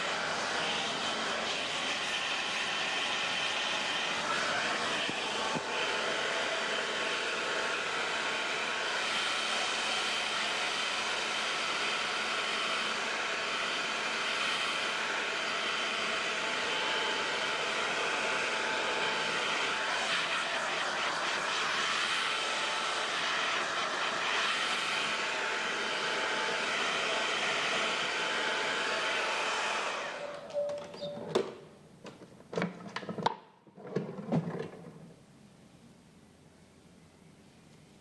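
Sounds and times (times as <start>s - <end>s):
hair dryer blowing: 0.0s - 30.6s.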